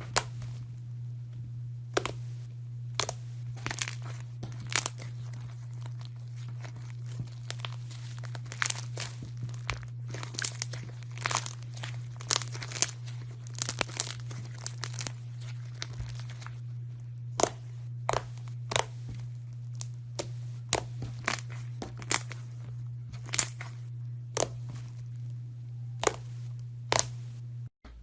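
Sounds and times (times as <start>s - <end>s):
steady low hum: 0.0s - 28.0s
slime crackling: 2.0s - 27.4s.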